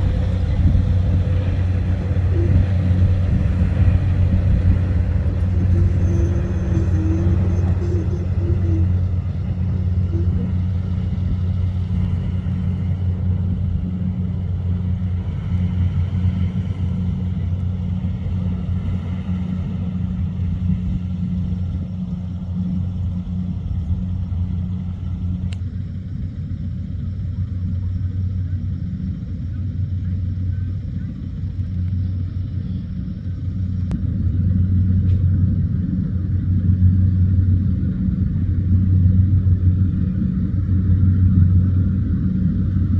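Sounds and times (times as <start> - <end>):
harvester engine droning: 0.0 - 42.9.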